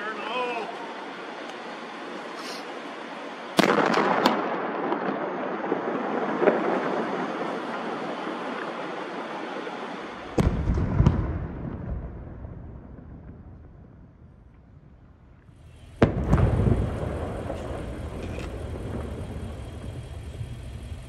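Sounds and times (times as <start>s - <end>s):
dynamite blast rumbling: 3.6s - 21.0s.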